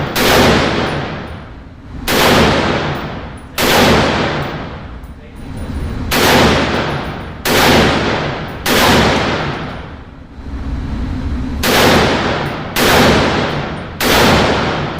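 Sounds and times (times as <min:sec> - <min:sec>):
gunshots echoing: 0:00.0 - 0:05.0, 0:05.9 - 0:10.1, 0:11.5 - 0:14.9.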